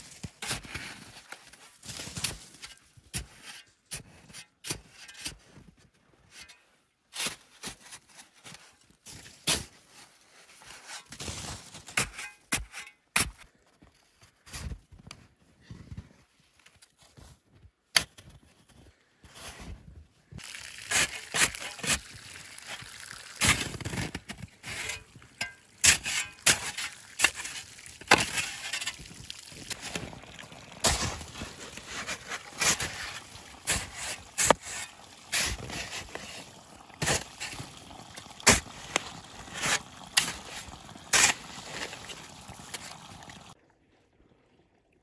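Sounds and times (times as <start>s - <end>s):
shovel crunching into snow: 0.0s - 5.4s, 6.4s - 13.4s, 19.2s - 43.1s.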